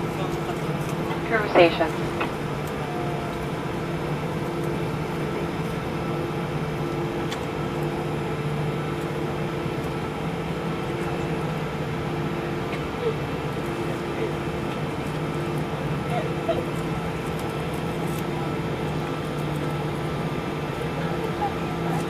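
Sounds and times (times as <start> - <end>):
airliner engines from cabin: 0.0 - 22.0.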